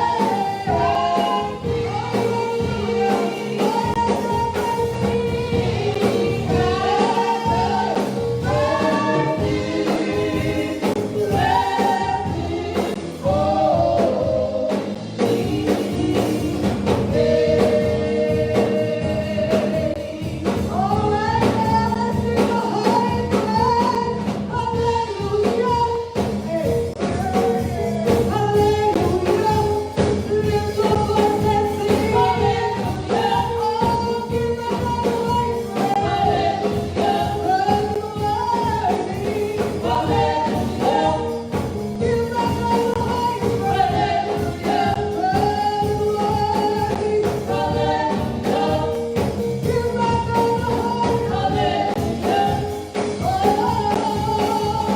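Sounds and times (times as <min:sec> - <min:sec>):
gospel singing: 0:00.0 - 0:54.9
instrumental accompaniment with beat: 0:00.0 - 0:54.9.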